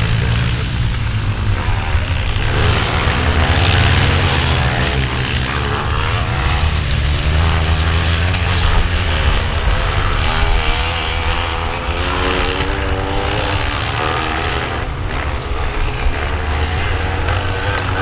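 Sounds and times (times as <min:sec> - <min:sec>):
motorcycle engines racing past: 0:00.0 - 0:18.0.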